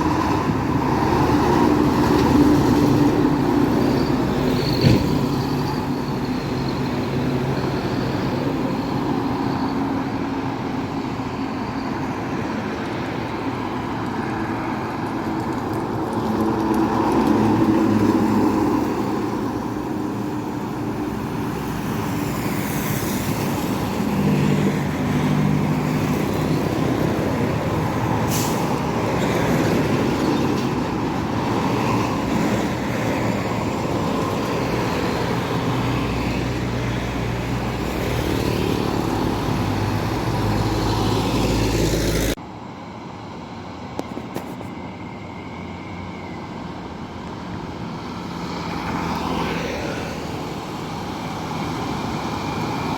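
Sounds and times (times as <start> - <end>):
heavy trucks passing: 0.0 - 52.9
tyre and road noise: 0.0 - 52.9.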